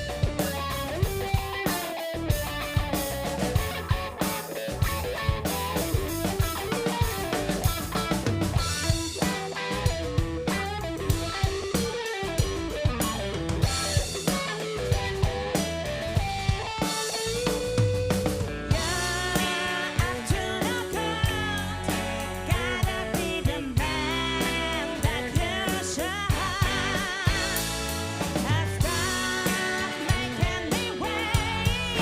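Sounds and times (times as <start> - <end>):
drum kit beat: 0.0 - 32.0
funk and soul band playing: 0.0 - 32.0.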